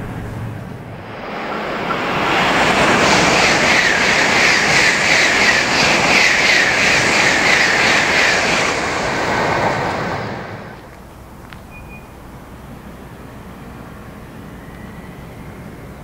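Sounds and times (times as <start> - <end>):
high-speed train rushing past: 0.0 - 16.0.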